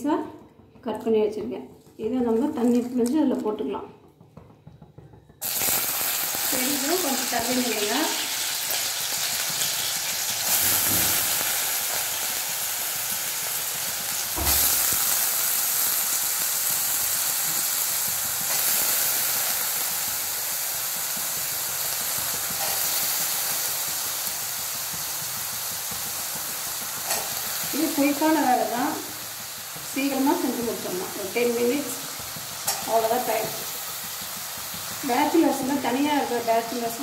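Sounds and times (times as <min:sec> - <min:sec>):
potatoes sizzling in oil: 0:05.4 - 0:37.0.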